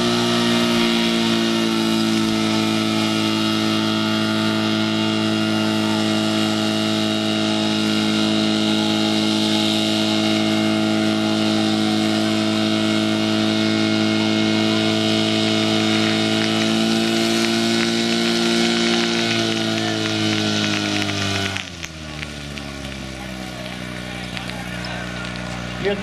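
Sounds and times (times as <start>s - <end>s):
pump engine droning: 0.0s - 26.0s.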